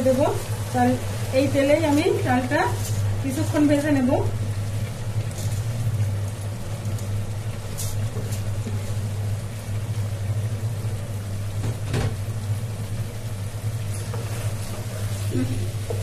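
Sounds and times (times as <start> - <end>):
low kitchen hum: 0.0 - 16.0.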